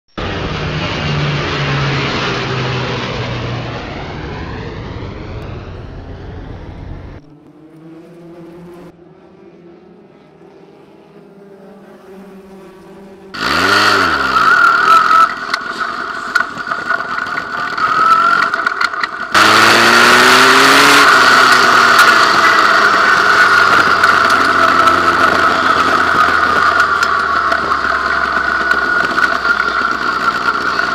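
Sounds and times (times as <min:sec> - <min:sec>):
race car engine running hard: 0:00.1 - 0:30.9
distant race car engines droning: 0:00.2 - 0:30.9
race car passing by: 0:00.2 - 0:30.9.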